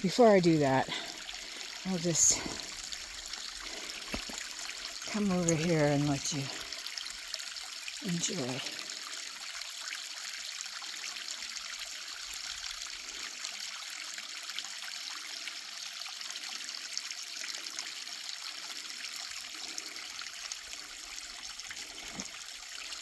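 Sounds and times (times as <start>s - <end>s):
small waterfall splashing over rock: 0.0s - 23.0s.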